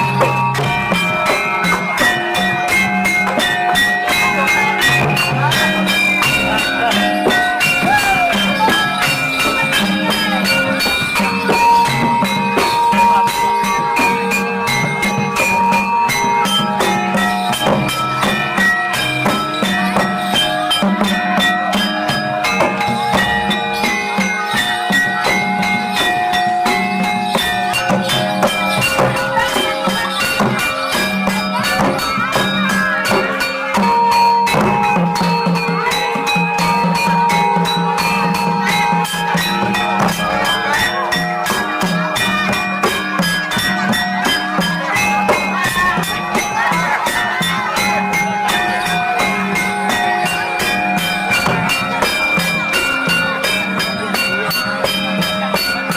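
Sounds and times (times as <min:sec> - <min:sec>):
bright jingling: 0:00.0 - 0:55.9
metallophones ringing: 0:00.0 - 0:55.9
steady drum beat: 0:00.0 - 0:55.9.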